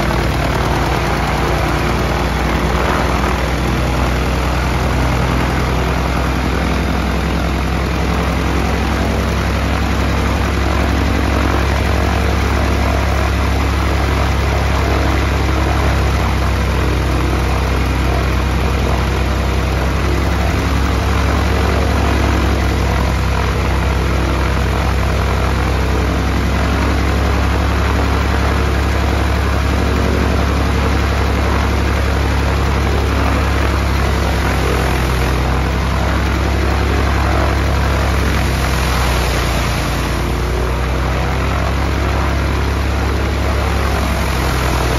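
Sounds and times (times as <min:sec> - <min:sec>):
aircraft engine running steadily: 0:00.0 - 0:44.9.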